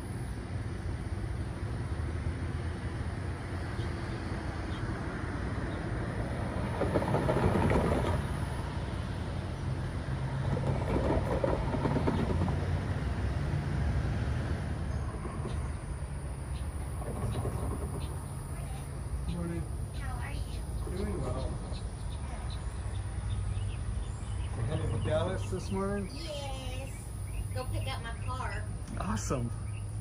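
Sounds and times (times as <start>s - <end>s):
car passing: 0.0s - 30.0s
pickup truck passing: 0.0s - 30.0s.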